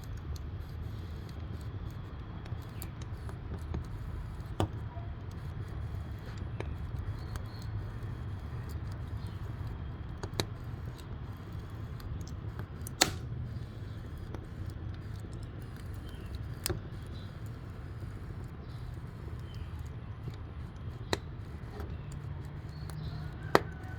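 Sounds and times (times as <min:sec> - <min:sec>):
firewood crackling and popping: 0:00.0 - 0:23.9
low rumble of fire: 0:00.0 - 0:23.9.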